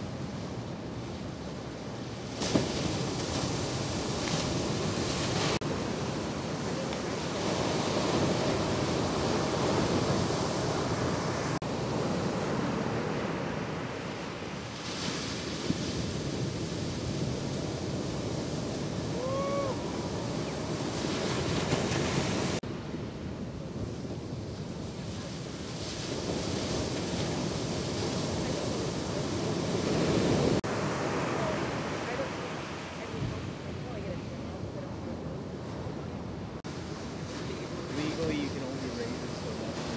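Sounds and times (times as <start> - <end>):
waves breaking: 0.0 - 39.9
wind on microphone: 0.0 - 39.9.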